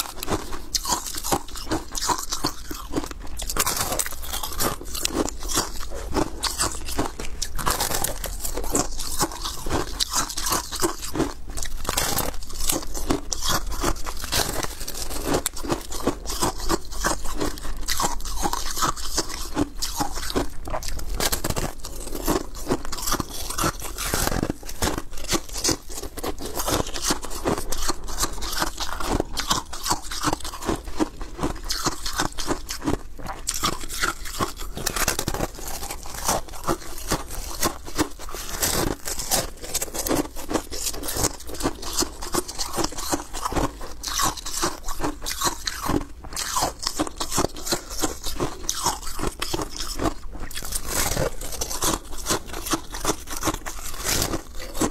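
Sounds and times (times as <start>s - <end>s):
ice crunching while chewed: 0.0s - 54.9s.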